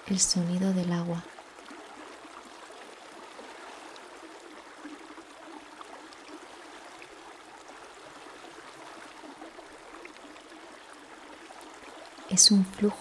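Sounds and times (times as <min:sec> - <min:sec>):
river water flowing over stones: 0:00.0 - 0:13.0
water trickling and splashing: 0:00.0 - 0:13.0.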